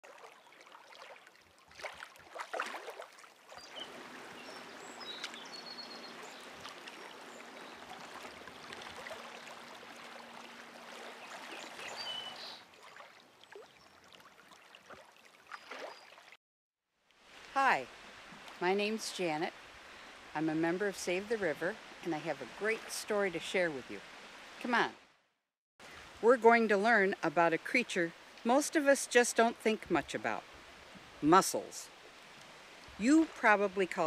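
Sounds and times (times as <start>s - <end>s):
river water rippling and lapping: 0.0s - 16.4s, 17.0s - 25.2s, 25.8s - 34.0s.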